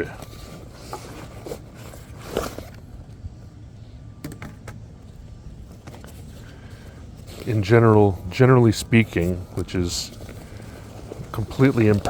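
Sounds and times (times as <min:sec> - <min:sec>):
soft rustling: 0:00.0 - 0:03.7, 0:05.0 - 0:12.0.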